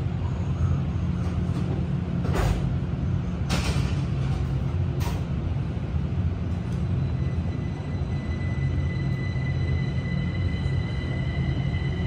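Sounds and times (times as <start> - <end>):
train car low rumble: 0.0 - 12.0.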